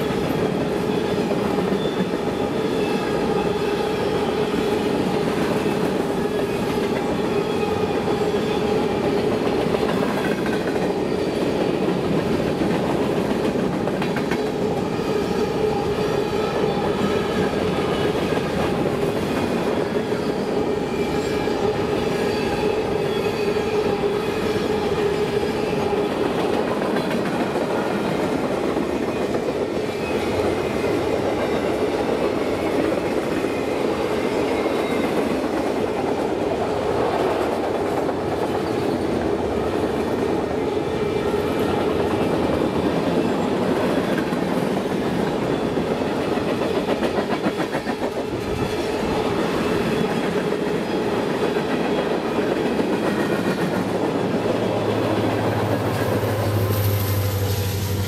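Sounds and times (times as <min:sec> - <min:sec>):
train wheels rumbling on rails: 0:00.0 - 0:58.0
clickety-clack over rail joints: 0:04.8 - 0:21.4, 0:23.0 - 0:58.0.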